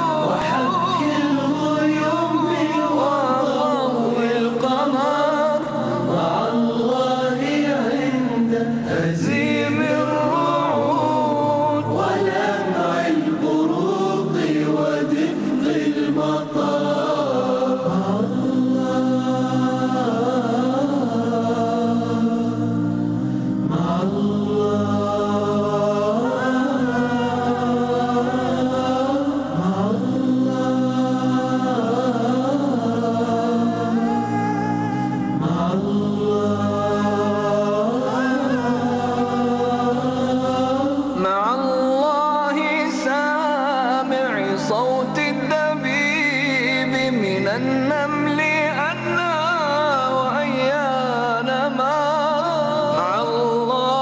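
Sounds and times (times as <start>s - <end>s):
voices singing in harmony: 0.0s - 54.0s.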